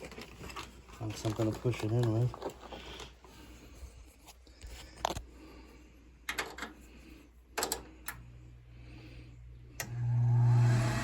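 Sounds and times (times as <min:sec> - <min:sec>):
furnace electrical hum: 0:00.0 - 0:11.0.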